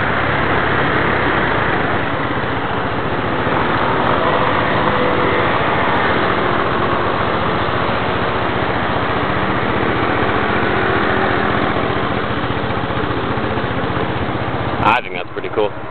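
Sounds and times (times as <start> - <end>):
constant rushing noise: 0.0 - 15.9
scooter engine running: 0.0 - 15.9.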